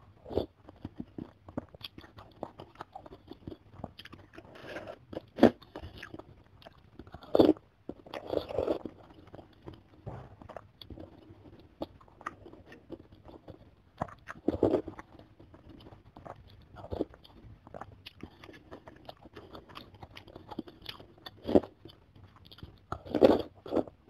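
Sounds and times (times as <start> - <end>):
wet chewing: 0.0 - 24.0.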